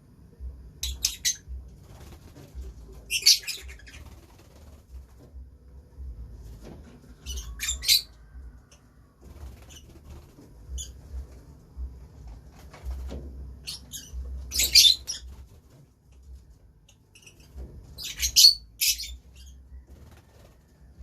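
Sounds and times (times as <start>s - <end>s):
lovebirds chirping and squawking: 0.8s - 5.0s, 6.4s - 11.5s, 12.2s - 20.7s.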